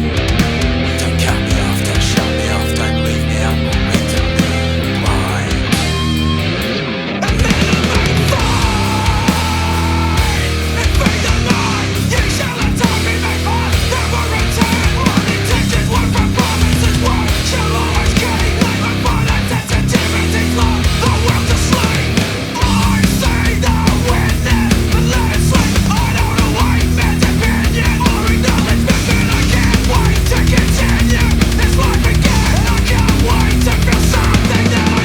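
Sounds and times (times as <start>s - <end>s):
black metal band playing: 0.0s - 35.0s.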